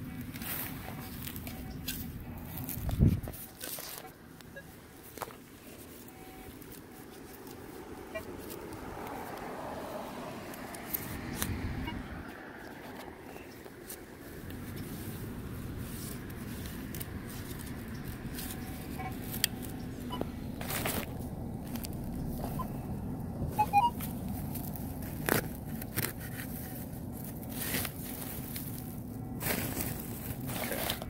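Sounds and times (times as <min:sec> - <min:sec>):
rustling and scraping while digging: 0:00.0 - 0:31.0.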